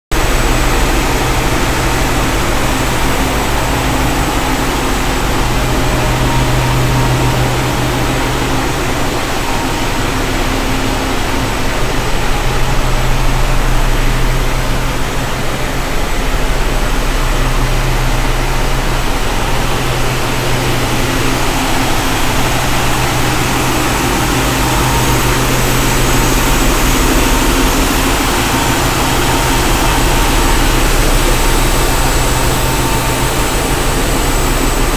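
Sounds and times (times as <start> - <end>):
engine-room machinery drone: 0.1 - 34.9.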